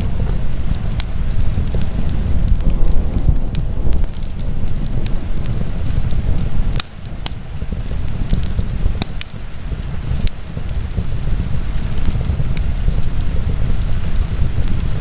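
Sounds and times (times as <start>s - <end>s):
burning wood crackles and pops: 0.0s - 15.0s
fire flames rumbling: 0.0s - 15.0s.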